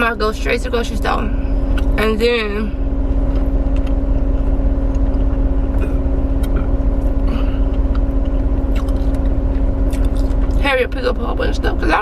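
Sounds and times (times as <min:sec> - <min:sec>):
car engine idling: 0:00.0 - 0:12.0
constant humming tone: 0:00.0 - 0:12.0.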